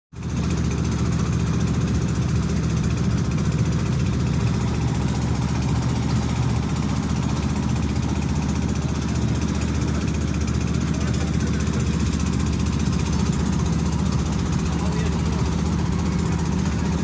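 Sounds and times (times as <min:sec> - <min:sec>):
boat engine chugging: 0:00.2 - 0:17.0.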